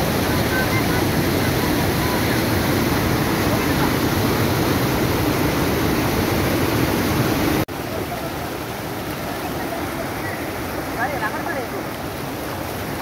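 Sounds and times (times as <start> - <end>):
flooded river rushing: 0.0 - 13.0
water pouring over spillway: 0.0 - 13.0.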